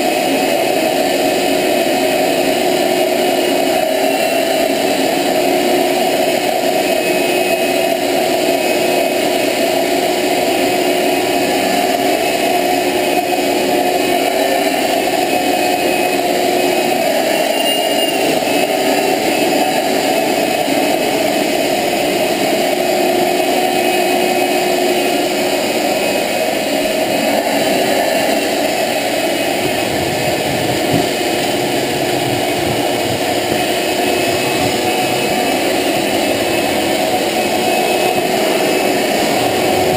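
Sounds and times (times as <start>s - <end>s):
shop vacuum running: 0.0s - 39.9s.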